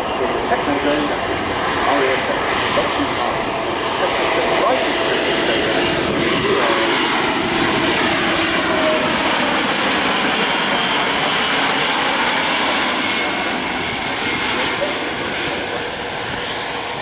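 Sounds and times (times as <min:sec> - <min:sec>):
turboprop aircraft passing low: 0:00.0 - 0:17.0.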